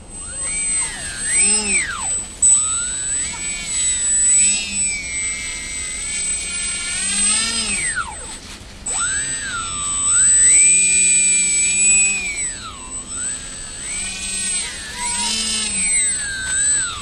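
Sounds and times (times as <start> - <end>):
electric motor and propeller whining: 0.0 - 17.0.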